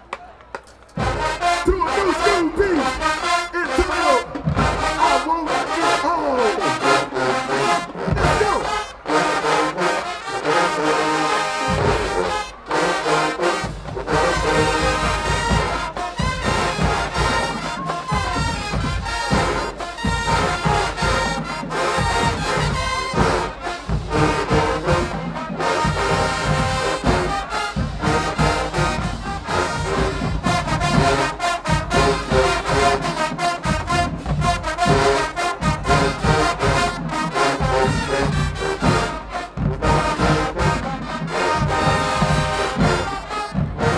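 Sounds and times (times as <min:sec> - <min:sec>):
marching band playing: 0:00.0 - 0:43.9
trombones and trumpets: 0:00.0 - 0:43.9.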